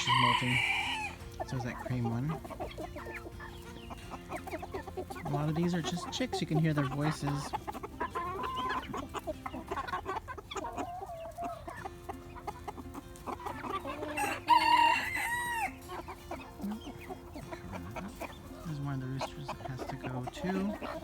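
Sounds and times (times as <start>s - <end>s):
cockerel crowing: 0.0s - 18.6s
chickens clucking and calling: 0.0s - 21.0s.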